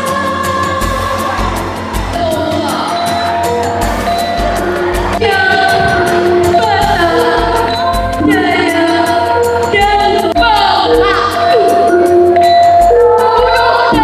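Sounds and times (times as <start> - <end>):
girl singing through microphone: 0.0 - 3.4, 4.5 - 14.0
backing music with ticking beat: 0.0 - 14.0.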